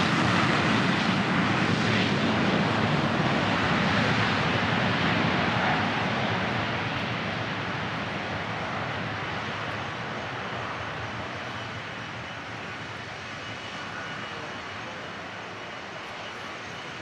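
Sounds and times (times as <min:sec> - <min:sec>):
jet engines at takeoff: 0:00.0 - 0:17.0.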